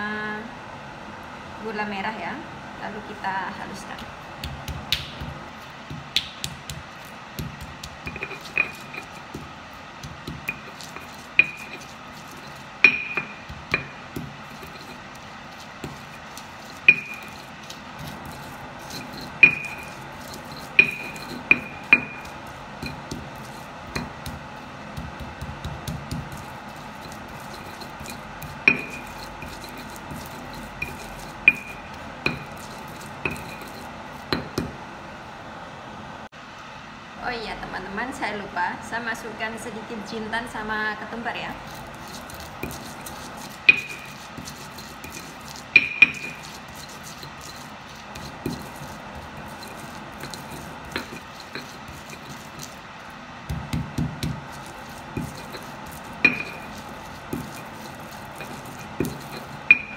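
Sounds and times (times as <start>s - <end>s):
crushing and scraping spices: 4.0s - 34.7s, 41.5s - 59.9s
stone pestle knocking in mortar: 4.0s - 34.8s, 41.6s - 52.8s, 53.5s - 59.9s.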